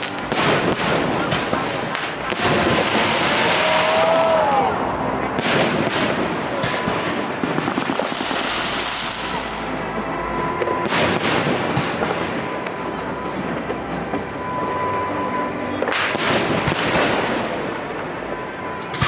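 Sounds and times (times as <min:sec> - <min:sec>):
firework crackle: 0:00.0 - 0:04.8, 0:05.4 - 0:14.9, 0:15.8 - 0:19.0
firework bangs: 0:00.0 - 0:14.9, 0:15.8 - 0:19.0.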